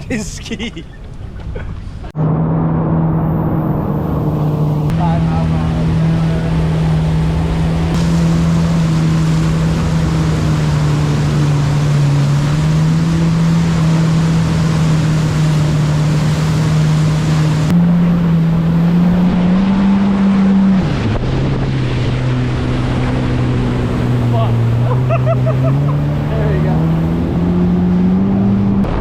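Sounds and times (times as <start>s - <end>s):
jet ski engine running: 0.1s - 29.0s
rushing water: 4.0s - 29.0s.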